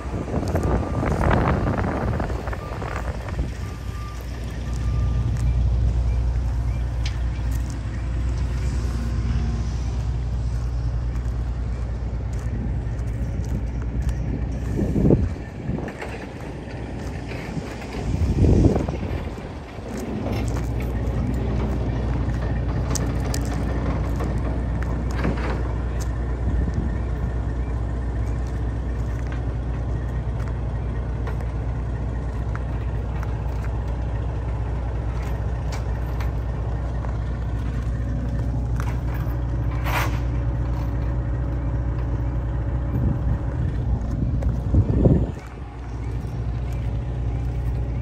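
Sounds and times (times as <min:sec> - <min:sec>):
tractor engine idling: 0:00.0 - 0:48.0.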